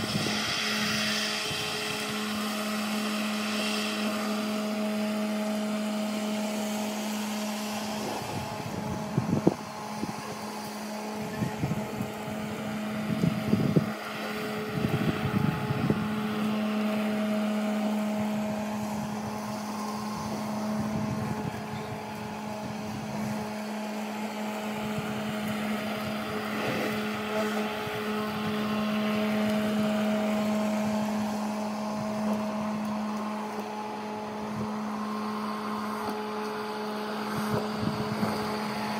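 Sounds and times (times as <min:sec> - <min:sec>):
electric lawn mower whining: 0:00.0 - 0:38.9.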